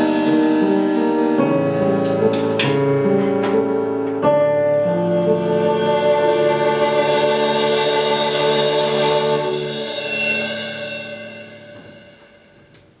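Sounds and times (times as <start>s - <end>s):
sustained music chord: 0.0s - 12.5s.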